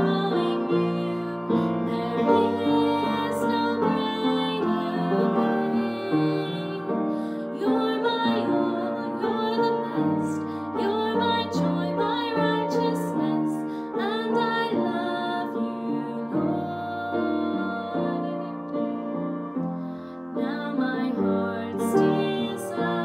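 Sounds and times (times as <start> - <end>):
woman singing: 0.0 - 19.0, 20.3 - 23.0
upright piano: 0.0 - 23.0.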